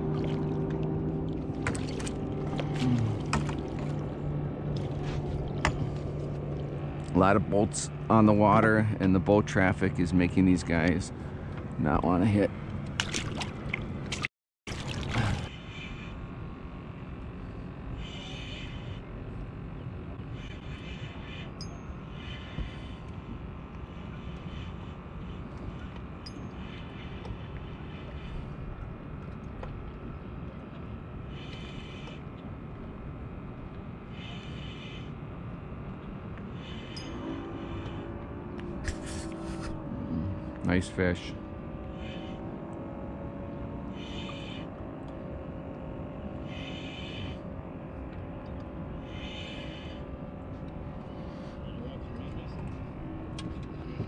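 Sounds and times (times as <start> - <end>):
boat motor rumbling: 0.0 - 54.0.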